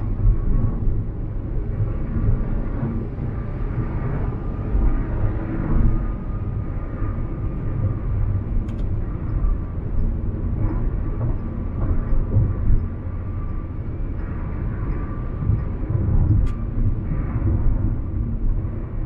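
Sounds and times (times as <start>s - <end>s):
car road and engine rumble: 2.2s - 19.0s.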